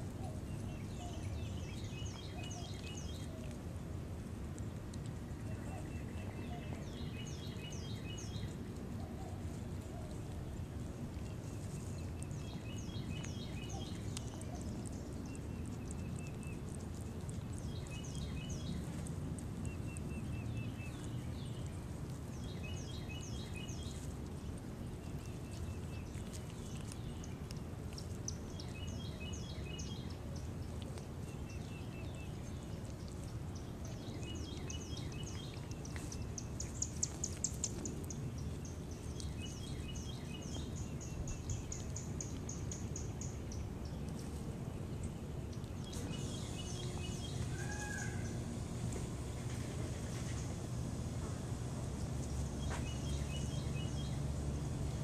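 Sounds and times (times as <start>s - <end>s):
songbird chirping: 0.0s - 3.8s, 4.4s - 55.0s
low outdoor rumble: 0.0s - 55.0s.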